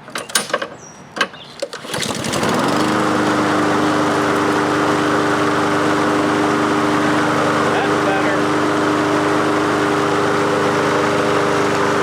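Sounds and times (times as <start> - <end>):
lawn mower engine pull-started: 0.0 - 12.0.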